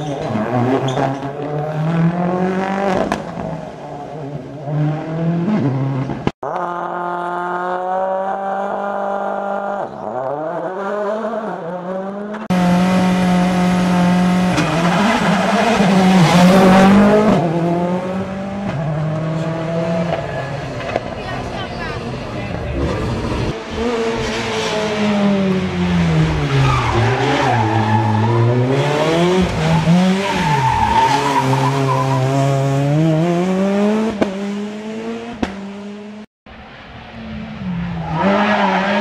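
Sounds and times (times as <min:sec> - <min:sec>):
rally car engine revving: 0:00.0 - 0:36.3.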